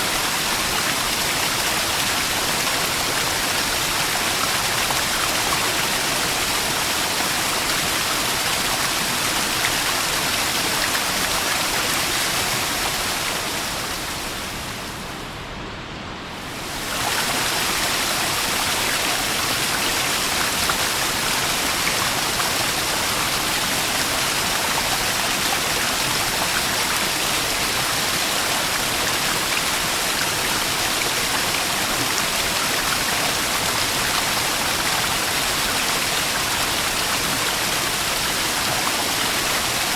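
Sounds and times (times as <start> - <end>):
waterfall rushing and splashing: 0.0 - 15.2, 16.3 - 39.9.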